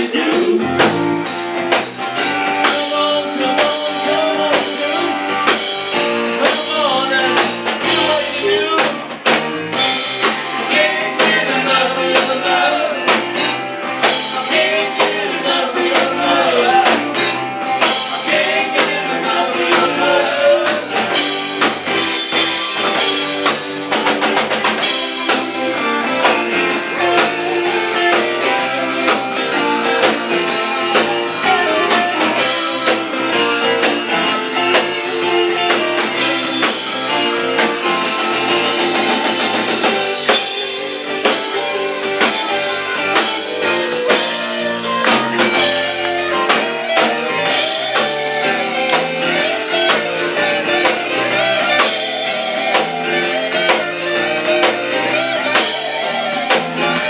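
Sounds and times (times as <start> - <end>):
drum kit beat: 0.0 - 57.0
electric guitar: 0.0 - 57.0
melodic lead line: 0.0 - 57.0.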